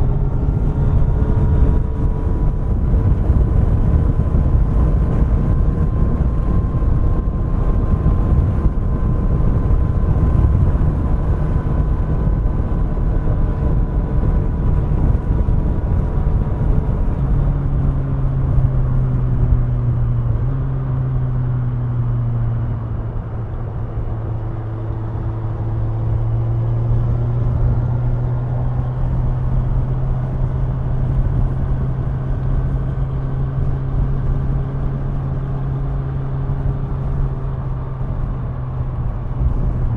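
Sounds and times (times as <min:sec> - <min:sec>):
heavy low rush: 0:00.0 - 0:39.9
motorcycle engine humming: 0:00.0 - 0:39.9.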